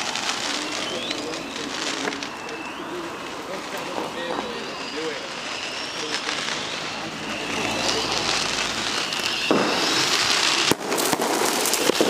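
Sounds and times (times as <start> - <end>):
fireworks crackling pops and bangs: 0.0 - 12.0.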